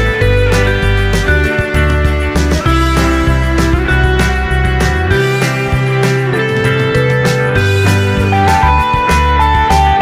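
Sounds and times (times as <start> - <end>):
guitar-led instrumental music: 0.0 - 10.0.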